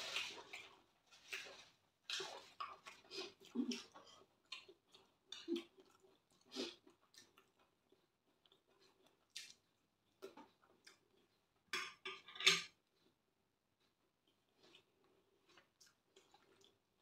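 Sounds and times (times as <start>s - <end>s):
person chewing food: 0.0s - 11.7s, 12.8s - 17.0s.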